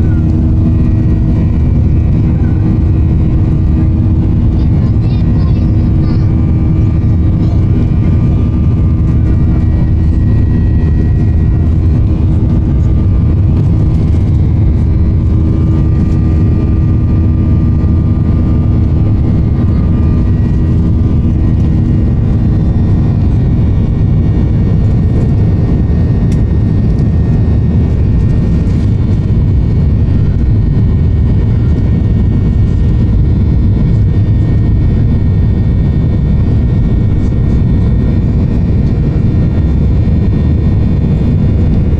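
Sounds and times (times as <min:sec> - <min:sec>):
airflow and jet engine roar: 0:00.0 - 0:41.9
low engine hum: 0:00.0 - 0:41.9.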